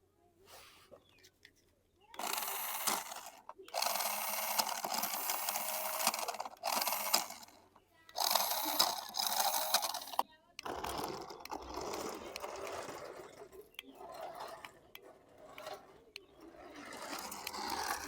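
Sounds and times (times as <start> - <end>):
toy electric motor whirring: 2.1 - 18.0.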